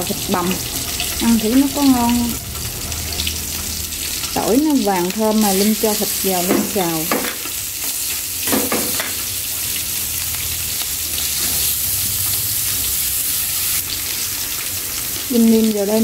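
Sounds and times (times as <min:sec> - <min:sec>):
meat sizzling in frying pan: 0:00.0 - 0:16.0.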